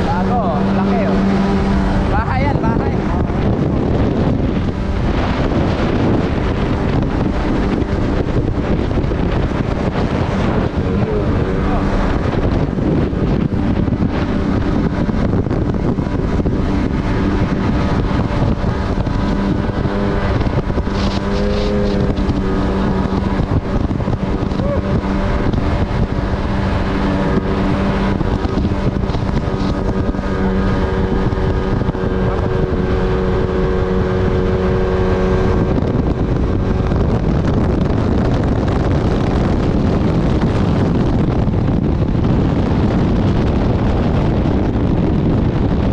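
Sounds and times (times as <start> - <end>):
jet ski engine running: 0.0 - 45.9
wind noise on microphone: 0.0 - 45.9.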